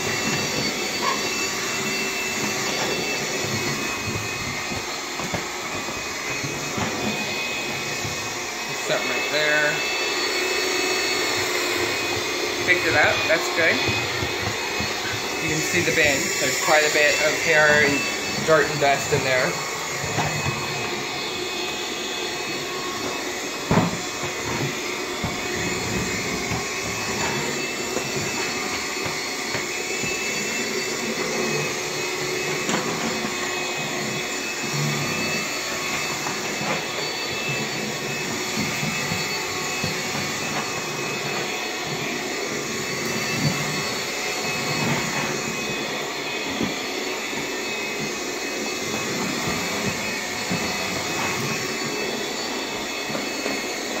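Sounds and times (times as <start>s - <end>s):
stick vacuum running: 0.0s - 54.0s.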